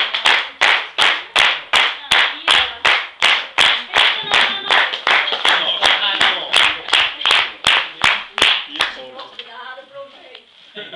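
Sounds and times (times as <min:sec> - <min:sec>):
hands clapping: 0:00.0 - 0:09.5.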